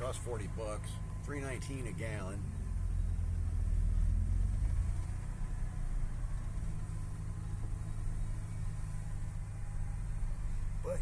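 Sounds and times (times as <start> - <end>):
car engine hum while driving: 0.0 - 11.0.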